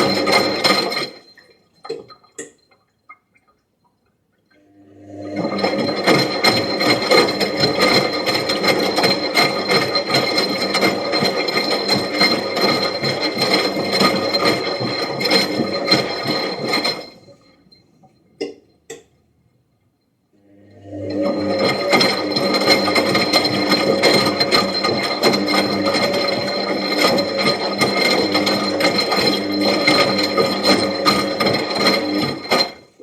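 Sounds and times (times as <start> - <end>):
washing machine running: 0.0 - 2.6, 4.6 - 17.7, 20.4 - 33.0.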